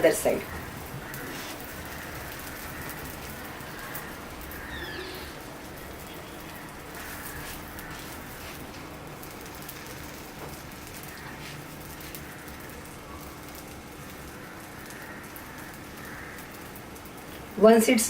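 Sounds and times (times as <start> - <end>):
batter sizzling in oil: 0.0 - 18.0.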